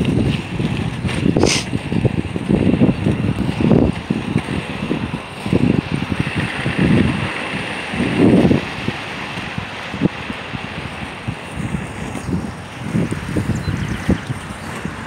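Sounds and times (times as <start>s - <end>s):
skate wheels rolling on asphalt: 0.0s - 15.0s
wind buffeting microphone: 0.0s - 15.0s.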